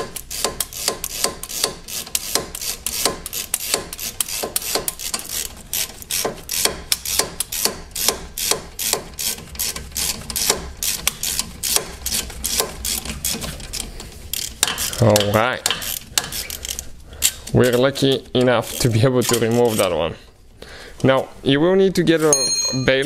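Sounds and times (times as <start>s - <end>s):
hand ratchet clicking: 0.0s - 19.9s.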